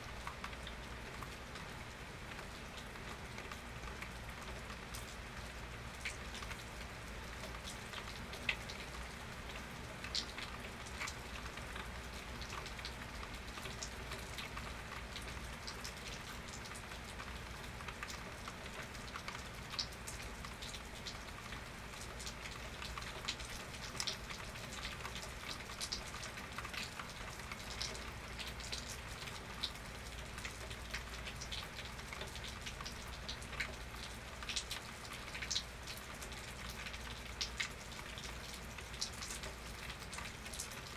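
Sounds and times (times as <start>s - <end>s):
raindrops ticking on a surface: 0.0s - 40.9s
steady rain hiss: 0.0s - 40.9s.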